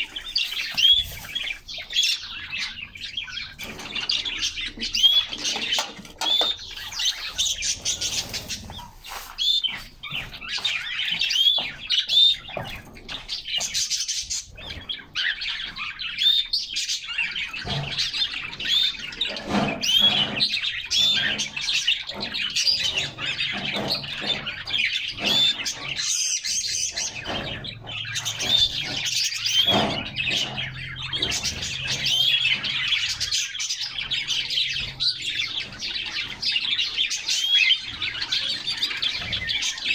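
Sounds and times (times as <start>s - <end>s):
canaries chirping and singing: 0.0s - 39.9s.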